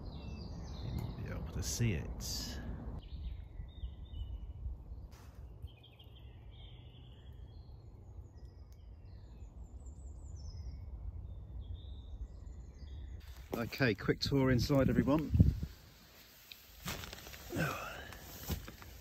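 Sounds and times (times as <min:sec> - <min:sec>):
birds chirping and warbling: 0:00.0 - 0:19.0.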